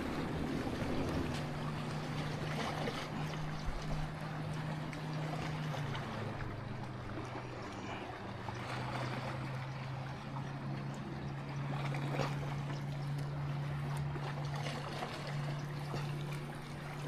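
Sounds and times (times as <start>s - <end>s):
boat engine droning: 0.0s - 17.0s
water: 0.0s - 17.0s
wind: 0.0s - 17.0s.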